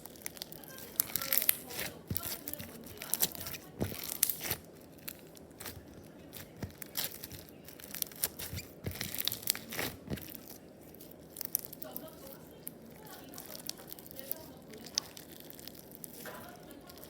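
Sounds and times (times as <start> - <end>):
slime squeezed sticky crackles: 0.0 - 17.0.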